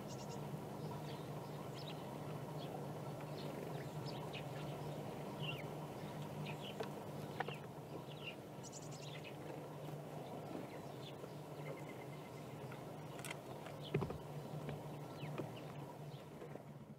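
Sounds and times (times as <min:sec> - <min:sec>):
low background hum: 0:00.0 - 0:16.9
songbirds chirping: 0:00.0 - 0:16.9.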